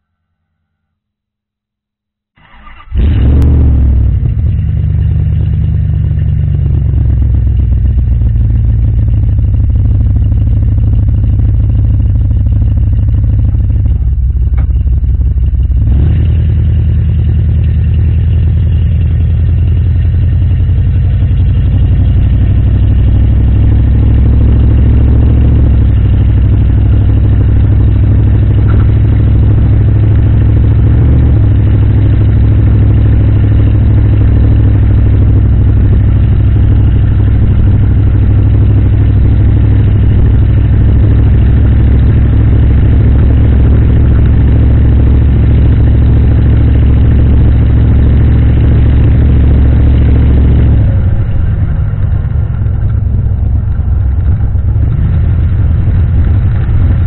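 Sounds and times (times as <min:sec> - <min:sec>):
truck engine exhaust drone: 0:02.4 - 0:57.0
tires rolling over snow: 0:02.9 - 0:57.0.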